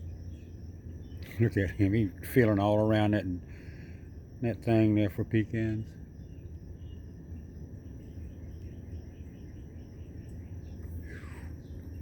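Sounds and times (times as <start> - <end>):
insects chirping: 0.0 - 12.0
low steady hum: 0.0 - 12.0.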